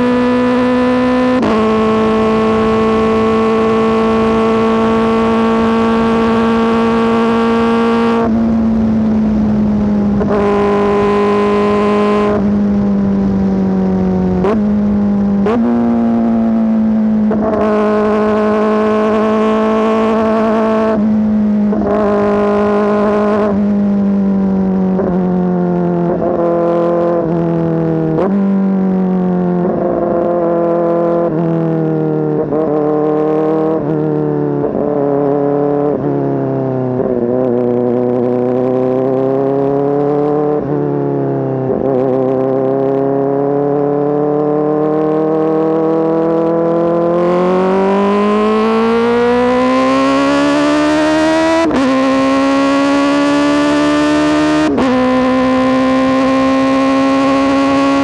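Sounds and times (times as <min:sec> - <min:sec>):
loud motorcycle engine revving: 0:00.0 - 0:58.0.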